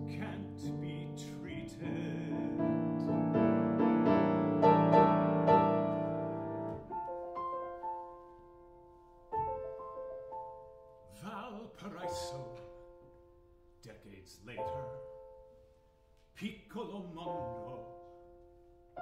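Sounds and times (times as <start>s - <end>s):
grand piano playing: 0.0s - 19.0s.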